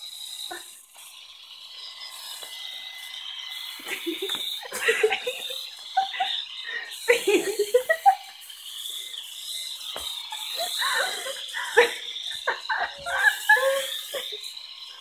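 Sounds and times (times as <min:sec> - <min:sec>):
electric epilator whirring: 0:00.0 - 0:15.0.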